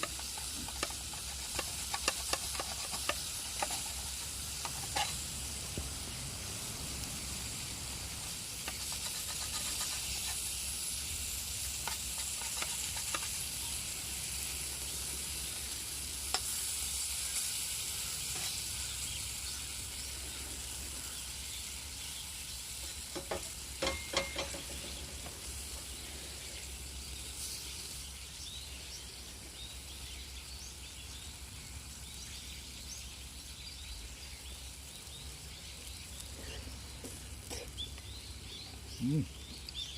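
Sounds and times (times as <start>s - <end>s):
steak sizzling in frying pan: 0.0s - 39.9s.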